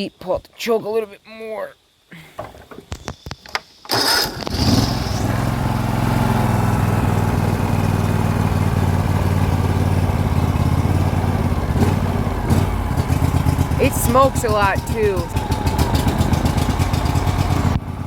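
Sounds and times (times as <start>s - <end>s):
mower engine cranking and running: 2.4s - 18.0s.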